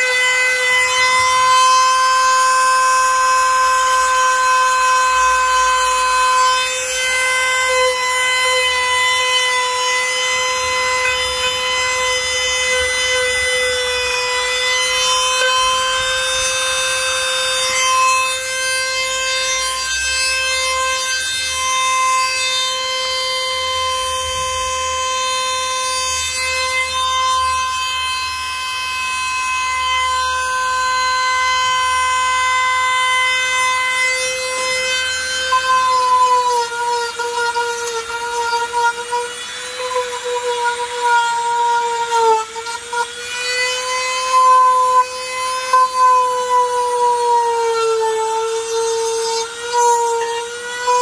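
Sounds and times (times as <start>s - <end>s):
power tool motor whining: 0.0s - 51.0s.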